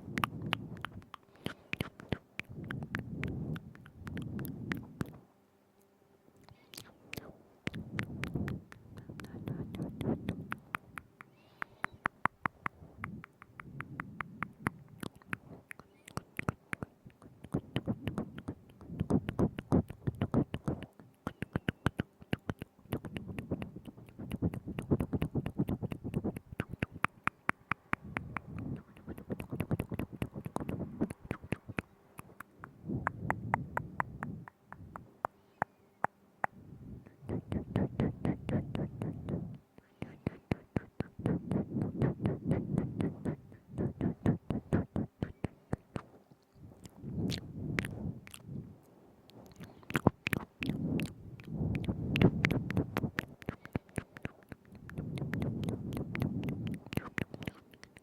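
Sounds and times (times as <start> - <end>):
lip smacks: 0.0 - 5.2, 6.4 - 48.6, 49.3 - 58.0
tongue clicks: 0.0 - 5.2, 6.4 - 48.6, 49.2 - 58.0.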